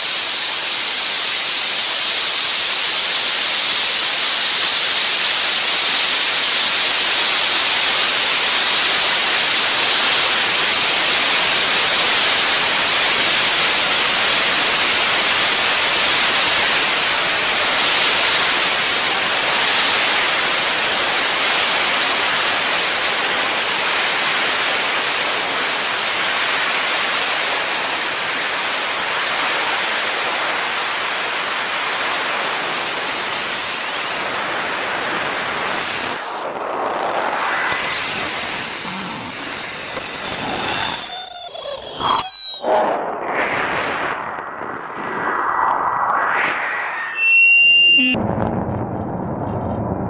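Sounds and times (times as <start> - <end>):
steady rushing hiss: 0.0 - 42.1.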